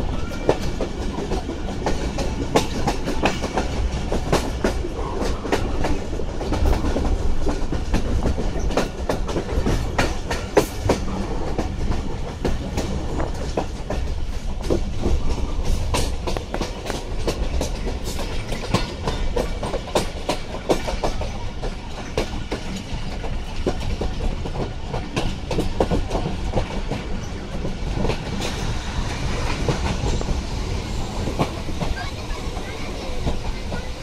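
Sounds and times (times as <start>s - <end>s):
train rumbling: 0.0s - 34.0s
wheels clattering over rails: 0.0s - 34.0s.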